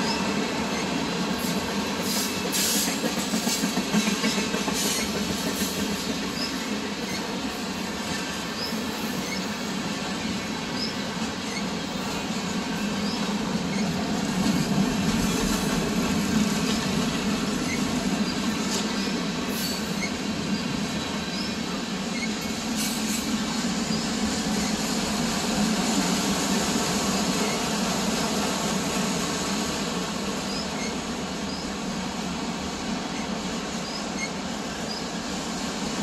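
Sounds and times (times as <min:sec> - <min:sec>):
train wheels running on rail: 0:00.0 - 0:36.0.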